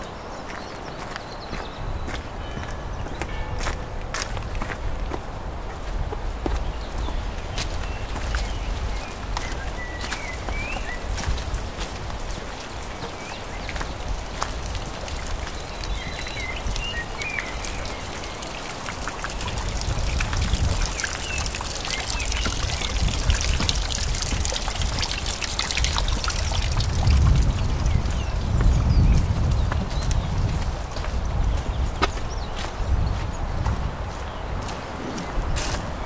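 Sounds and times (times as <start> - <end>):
footsteps on path: 0.0 - 36.0
small birds chirping: 0.0 - 36.0
water trickling and splashing: 0.0 - 36.0.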